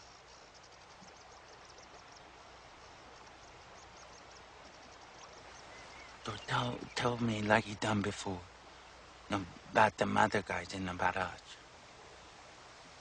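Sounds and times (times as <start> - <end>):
insects chirping: 0.0 - 13.0
low steady hiss: 0.0 - 13.0.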